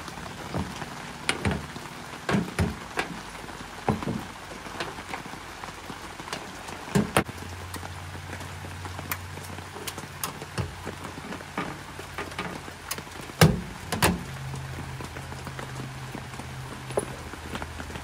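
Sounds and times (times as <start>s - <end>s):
rain pattering and dripping: 0.0s - 18.0s.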